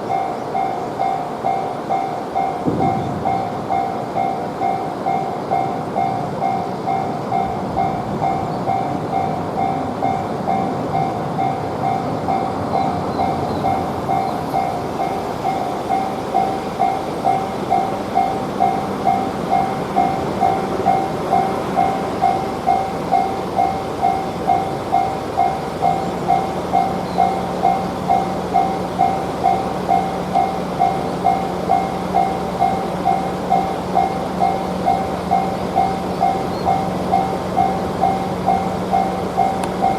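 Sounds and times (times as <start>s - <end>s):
railroad crossing alarm bell: 0.0s - 39.9s
train rumbling past: 0.0s - 39.9s.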